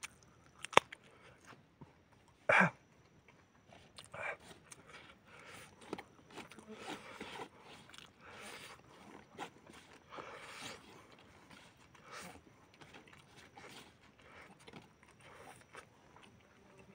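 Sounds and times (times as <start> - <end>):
person chewing and slurping noodles: 0.0 - 16.9.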